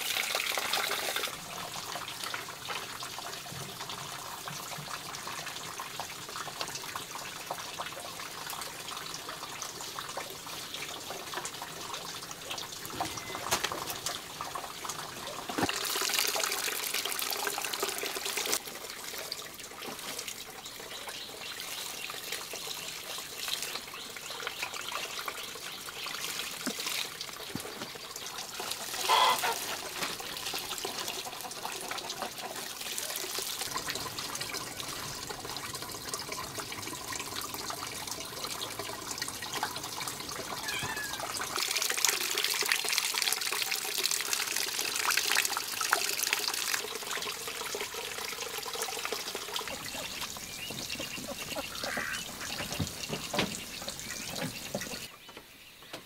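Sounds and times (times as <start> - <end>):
water running and trickling: 0.0 - 55.7.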